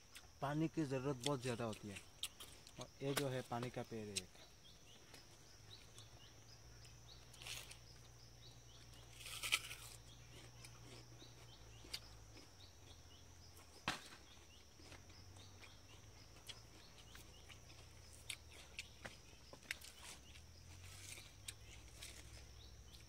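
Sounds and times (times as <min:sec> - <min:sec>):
high insect drone with chirps: 0:00.0 - 0:23.0.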